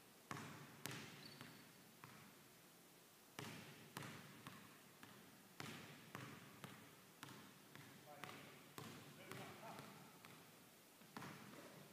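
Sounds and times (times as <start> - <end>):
basketball bouncing on wooden floor: 0.3 - 2.3, 3.4 - 11.8.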